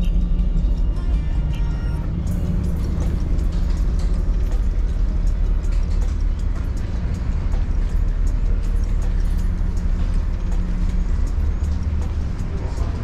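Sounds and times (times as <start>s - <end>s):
ship engines and ventilation rumble: 0.0s - 13.0s
footsteps walking: 2.3s - 13.0s.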